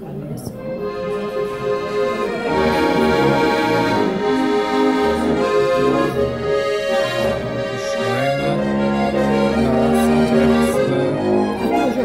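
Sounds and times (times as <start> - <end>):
accordion playing a tune: 0.4 - 12.0.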